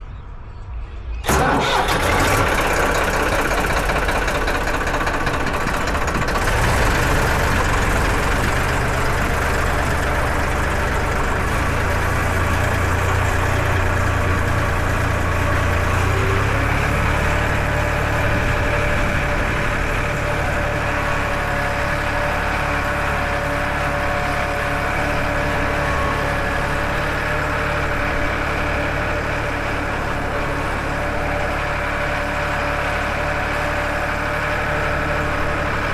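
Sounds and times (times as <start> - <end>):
tractor diesel engine idling: 1.2 - 35.9.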